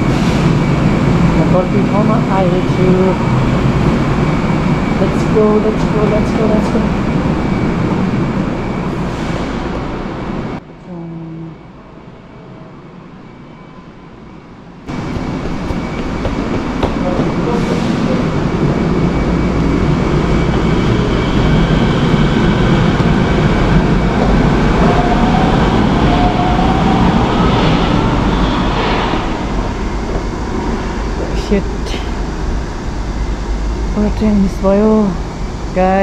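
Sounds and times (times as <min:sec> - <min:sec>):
subway train rumble: 0:00.0 - 0:36.0.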